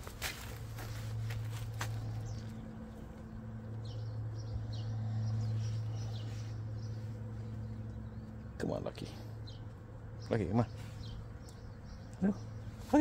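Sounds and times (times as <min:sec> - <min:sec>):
birds chirping: 0:00.0 - 0:13.0
low mechanical hum: 0:00.0 - 0:13.0.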